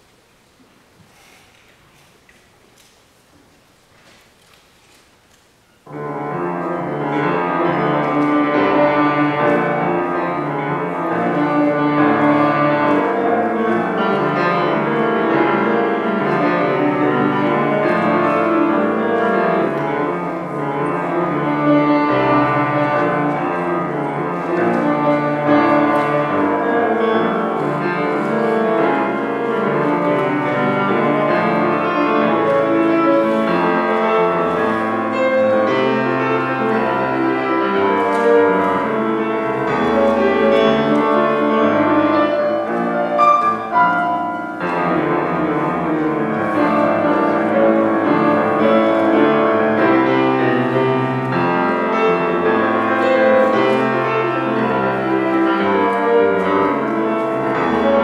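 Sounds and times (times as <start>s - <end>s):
solo piano piece: 5.8s - 58.0s.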